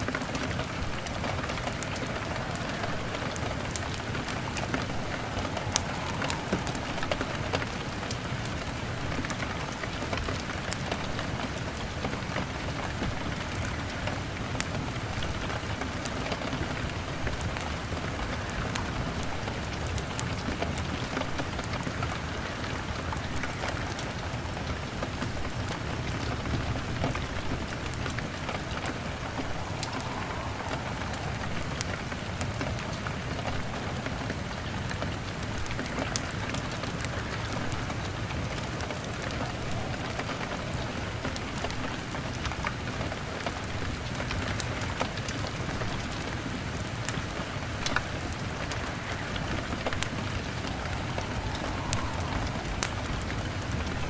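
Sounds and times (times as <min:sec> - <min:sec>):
log fire crackling: 0:00.0 - 0:12.1, 0:15.6 - 0:54.0
rain on a window: 0:00.0 - 0:54.0.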